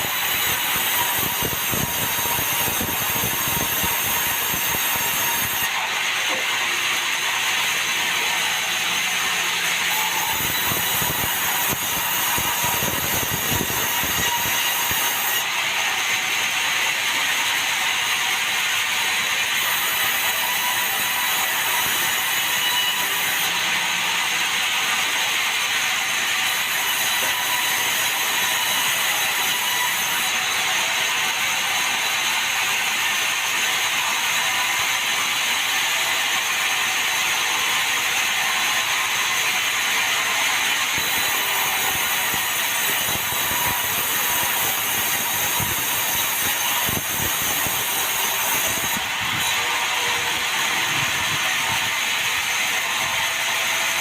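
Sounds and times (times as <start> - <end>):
sawmill saw cutting timber: 0.0 - 54.0.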